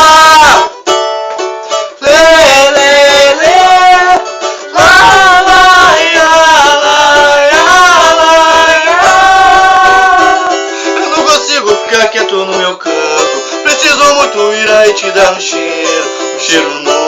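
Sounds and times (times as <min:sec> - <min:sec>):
cavaquinho strumming: 0:00.0 - 0:17.0.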